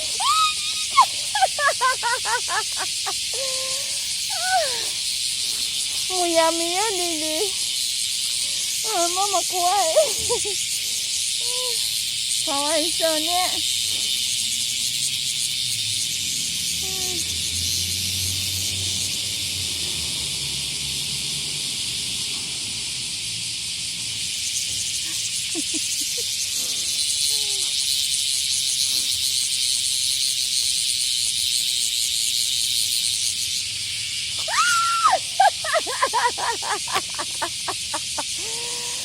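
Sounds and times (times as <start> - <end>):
cicadas shrilling: 0.0 - 39.0.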